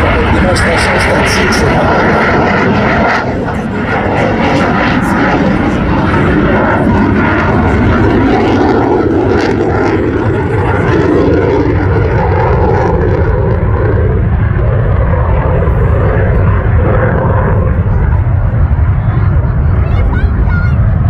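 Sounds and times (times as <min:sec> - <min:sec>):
fighter jet flying by: 0:00.0 - 0:21.0.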